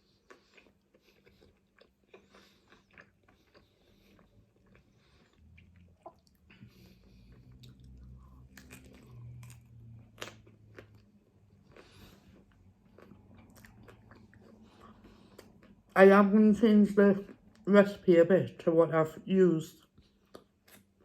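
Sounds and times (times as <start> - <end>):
person chewing and crunching food: 0.0 - 18.1, 19.7 - 21.0
faint low hum: 0.0 - 21.0.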